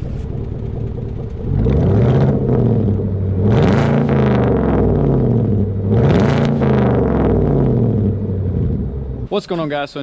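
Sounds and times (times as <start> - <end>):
truck engine revving: 0.0 - 9.3.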